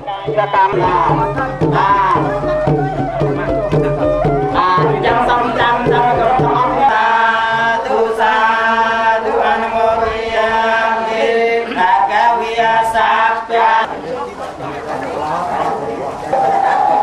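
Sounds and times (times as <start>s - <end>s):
voices chanting long notes: 0.0s - 13.9s, 16.2s - 17.0s.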